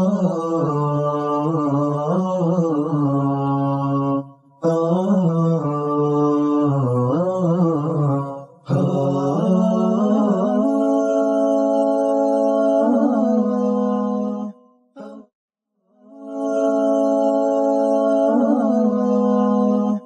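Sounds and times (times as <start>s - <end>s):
solo voice chanting: 0.0s - 15.3s, 16.1s - 20.0s.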